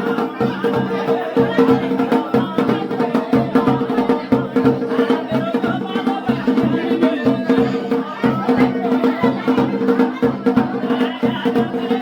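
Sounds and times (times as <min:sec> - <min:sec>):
folk drums beating: 0:00.0 - 0:12.0.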